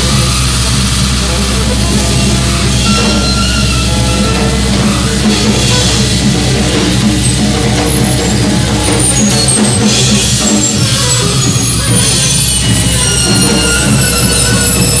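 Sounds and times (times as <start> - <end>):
distorted noise wash: 0.0 - 15.0
low drone: 0.0 - 15.0
thin high held tones: 0.0 - 15.0.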